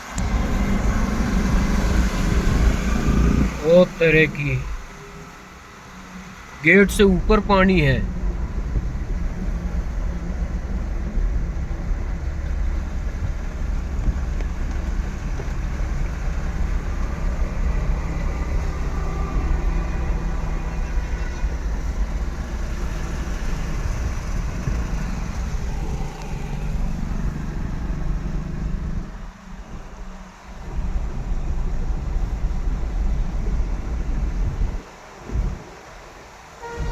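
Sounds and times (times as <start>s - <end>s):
motor vehicle rumbling: 0.0s - 36.9s
road noise: 0.0s - 36.9s.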